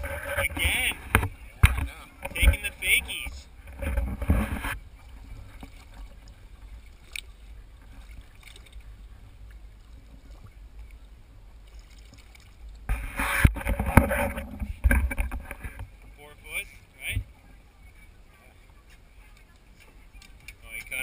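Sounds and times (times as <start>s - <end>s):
water splashing: 0.0s - 21.0s
wind and water rumble: 0.0s - 21.0s.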